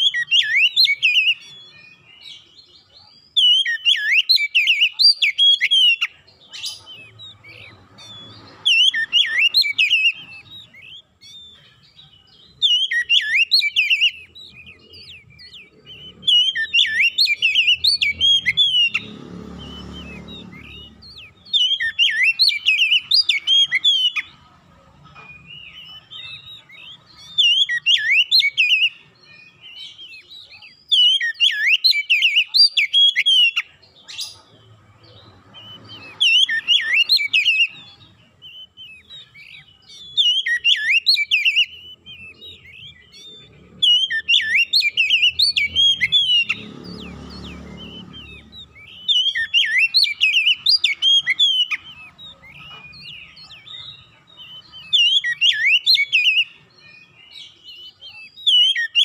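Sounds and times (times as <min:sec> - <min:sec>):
bird singing whistles: 0:00.0 - 0:24.5, 0:25.1 - 0:59.0.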